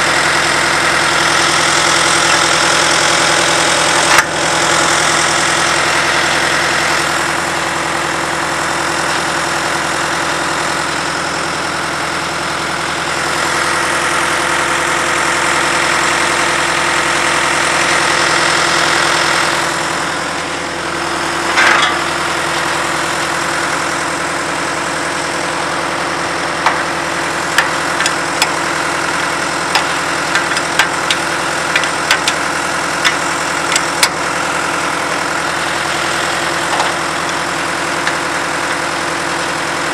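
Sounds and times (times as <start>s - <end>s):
drill rig engine idling: 0.0s - 39.9s.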